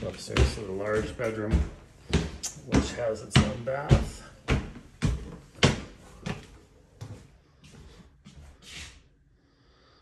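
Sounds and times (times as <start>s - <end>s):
footsteps climbing stairs: 0.0s - 8.7s.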